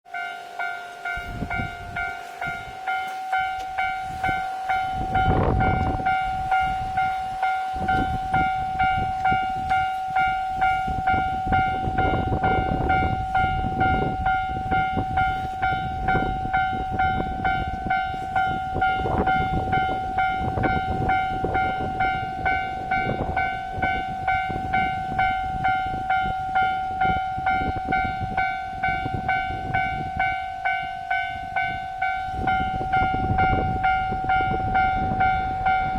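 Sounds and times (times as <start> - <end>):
diesel train rumble: 0.1 - 35.9
level crossing alarm clanging: 0.1 - 35.9
train wheels clattering on rails: 1.1 - 35.9.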